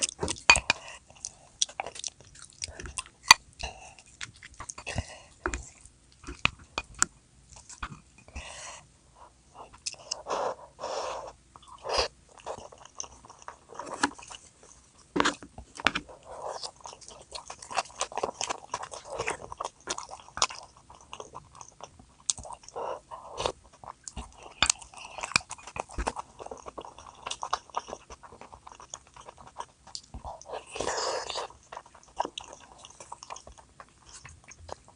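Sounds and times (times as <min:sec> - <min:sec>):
person chewing: 0:00.0 - 0:08.4, 0:09.6 - 0:34.9.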